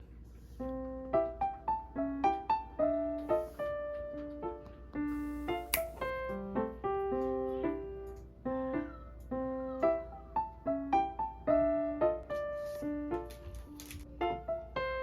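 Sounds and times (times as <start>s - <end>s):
light piano melody: 0.0s - 15.0s.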